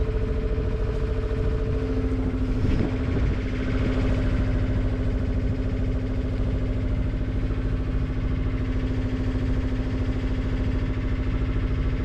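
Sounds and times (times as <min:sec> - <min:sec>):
boat diesel engine running: 0:00.0 - 0:12.0.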